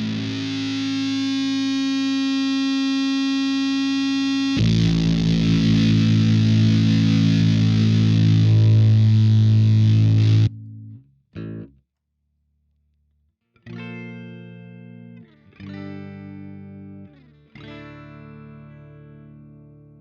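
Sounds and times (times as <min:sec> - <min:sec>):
fuzzed electric guitar chords: 0:00.0 - 0:11.7, 0:13.7 - 0:20.0.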